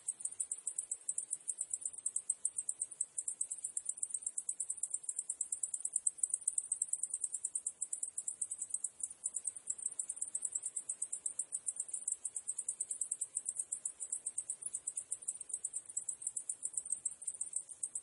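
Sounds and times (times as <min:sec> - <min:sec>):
cicadas pulsing chorus: 0:00.0 - 0:18.0.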